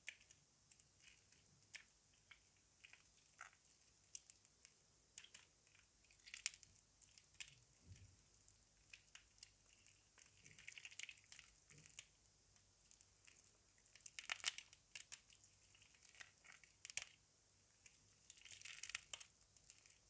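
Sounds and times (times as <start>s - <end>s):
wet soap squelching: 0.0s - 20.0s.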